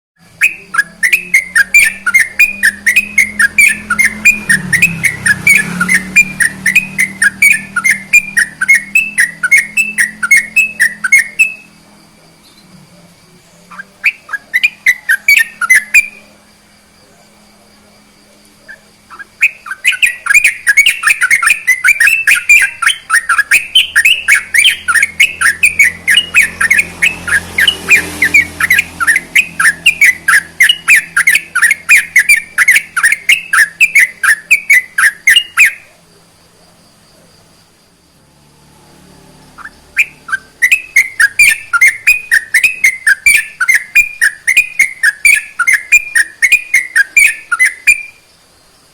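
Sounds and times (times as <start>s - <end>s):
bird chattering song: 0.2s - 37.6s, 39.0s - 48.3s.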